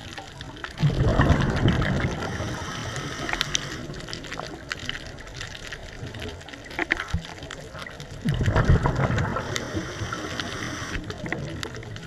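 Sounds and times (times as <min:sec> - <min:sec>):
underwater exhaled bubbles rushing: 0:00.0 - 0:12.0.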